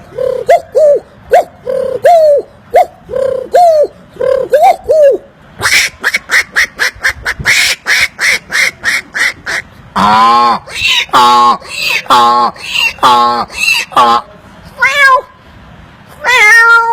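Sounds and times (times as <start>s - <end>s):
man imitating bird calls: 0.0s - 15.3s.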